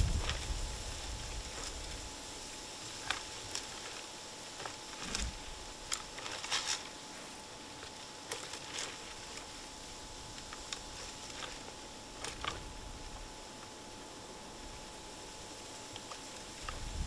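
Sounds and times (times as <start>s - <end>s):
dry grass and twigs crackling: 0.0s - 17.0s
steady low hiss: 0.0s - 17.0s.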